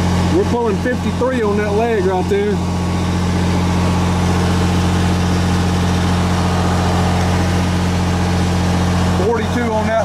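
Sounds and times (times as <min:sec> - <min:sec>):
generator droning: 0:00.0 - 0:10.0.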